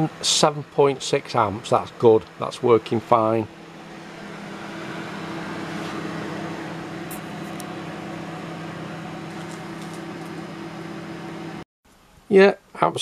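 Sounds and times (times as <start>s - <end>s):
cooling fan rushing: 0.0s - 11.6s
microwave oven humming: 0.0s - 11.6s.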